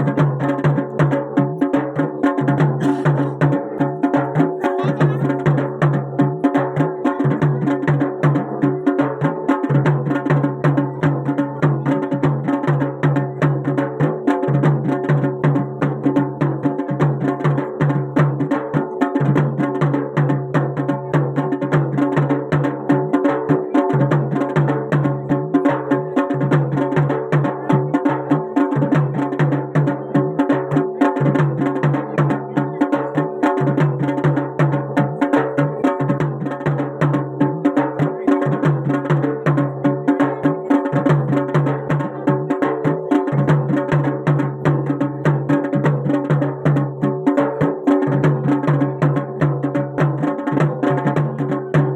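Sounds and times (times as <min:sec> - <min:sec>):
fast drumming: 0:00.0 - 0:51.9.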